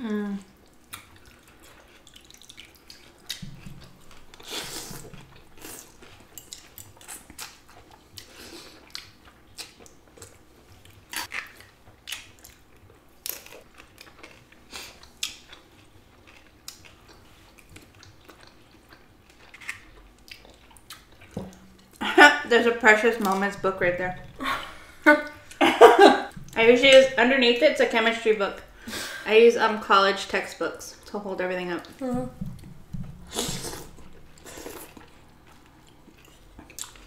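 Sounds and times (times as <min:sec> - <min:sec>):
people chewing food: 0:00.0 - 0:27.2, 0:31.8 - 0:37.0.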